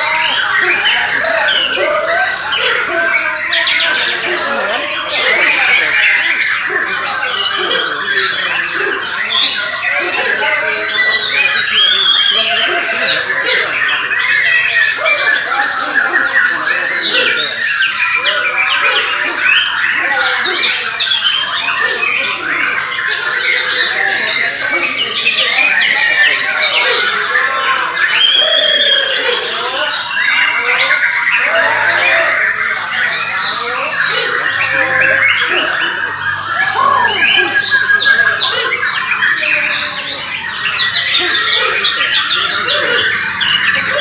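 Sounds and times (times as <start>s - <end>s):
songbirds singing: 0.0s - 44.0s
voices murmuring: 0.0s - 44.0s.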